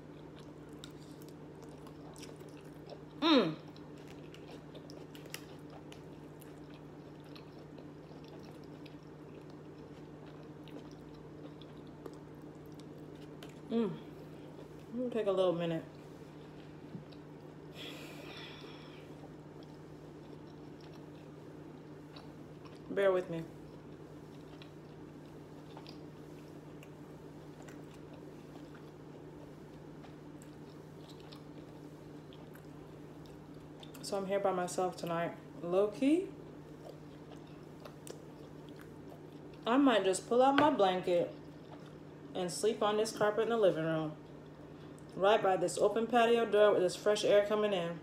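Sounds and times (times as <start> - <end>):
soft chewing: 0.0 - 42.3, 43.1 - 45.2
low electrical hum: 0.0 - 48.0.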